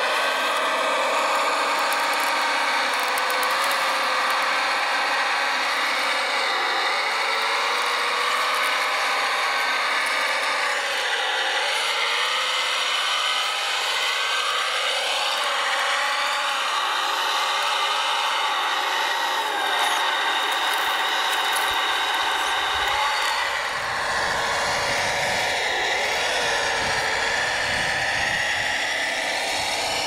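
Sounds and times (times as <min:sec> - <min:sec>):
electric motors whining: 0:00.0 - 0:30.0.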